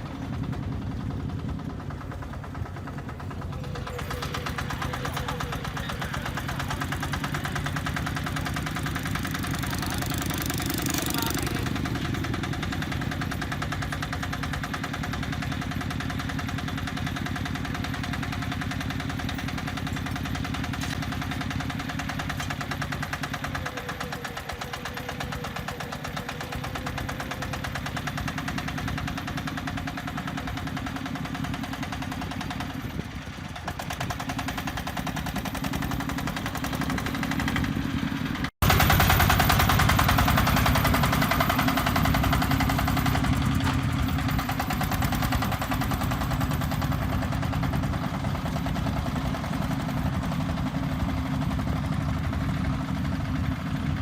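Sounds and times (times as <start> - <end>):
concrete mixer engine clattering: 0.0 - 54.0.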